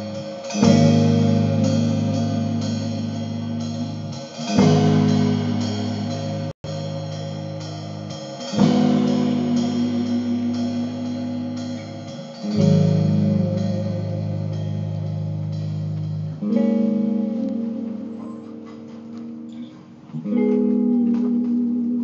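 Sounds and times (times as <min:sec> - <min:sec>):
live rock band playing: 0:00.0 - 0:22.0
long ringing guitar chords: 0:00.0 - 0:22.0.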